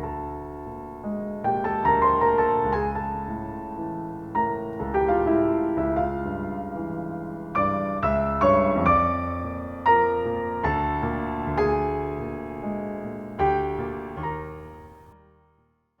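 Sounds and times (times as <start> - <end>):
slow solo piano: 0.0 - 15.8.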